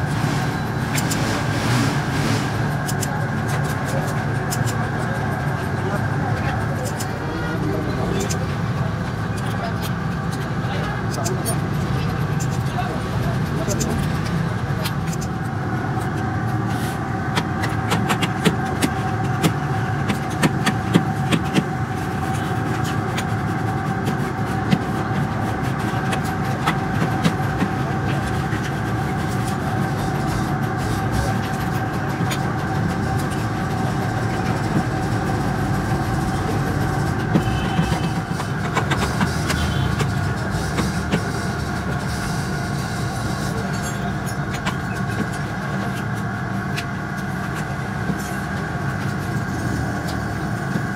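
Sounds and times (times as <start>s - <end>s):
workshop machinery humming: 0.0s - 50.9s.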